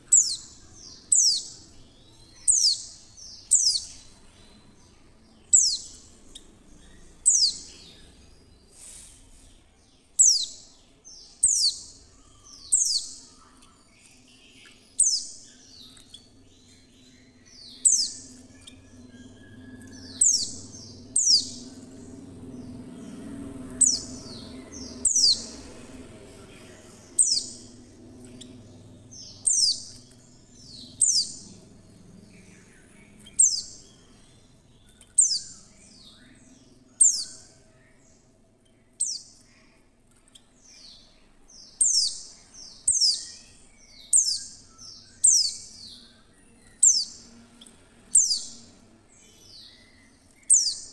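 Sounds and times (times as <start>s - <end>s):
faint low hum: 0.0s - 50.9s.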